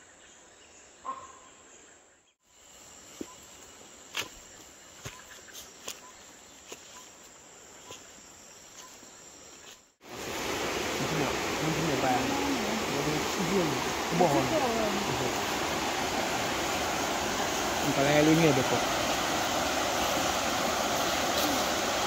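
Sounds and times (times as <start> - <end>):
insects chirring: 2.4 - 22.0.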